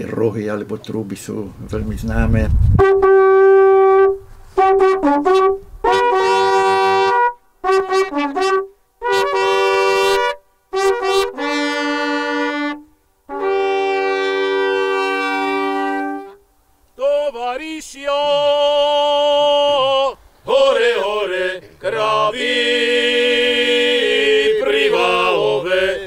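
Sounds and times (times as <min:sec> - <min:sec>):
long wooden horns playing: 0:02.8 - 0:17.7, 0:18.5 - 0:26.0.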